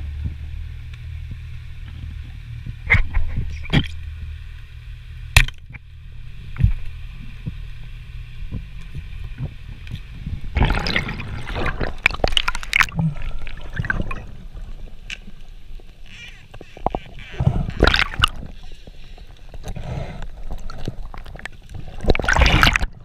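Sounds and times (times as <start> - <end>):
low underwater rumble: 0.0 - 23.0
underwater crackling and rattling: 0.2 - 23.0.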